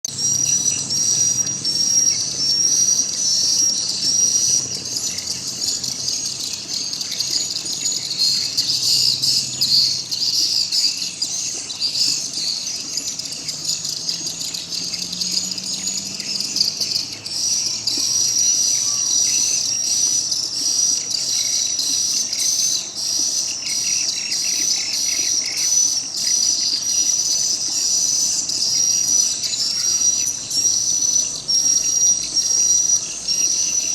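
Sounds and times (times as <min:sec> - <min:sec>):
swiftlet twittering chirps: 0:00.0 - 0:33.9.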